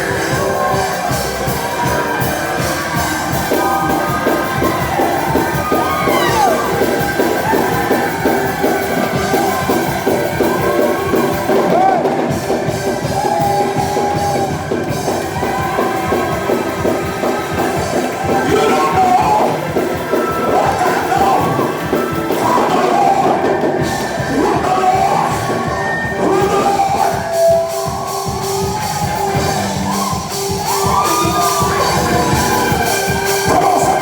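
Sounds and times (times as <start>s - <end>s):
gospel church band playing: 0.0s - 34.0s
people shouting and whooping: 0.0s - 34.0s.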